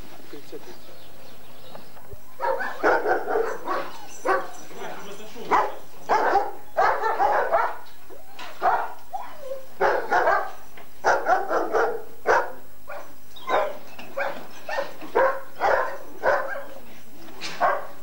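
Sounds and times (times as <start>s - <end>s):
dogs barking: 2.1s - 18.0s.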